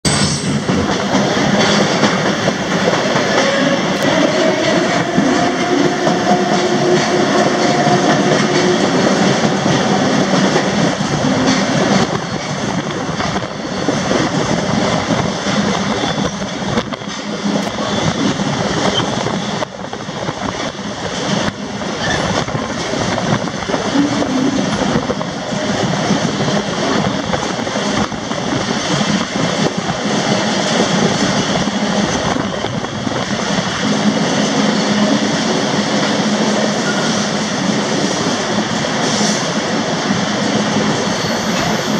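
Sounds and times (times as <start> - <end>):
train car clattering and rattling: 0.0 - 41.9
steel wheels on rails: 0.1 - 41.9.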